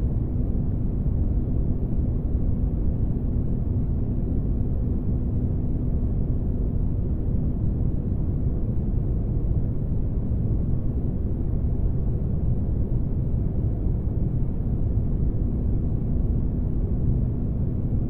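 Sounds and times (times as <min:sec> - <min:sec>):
faint constant hum: 0:00.0 - 0:18.0.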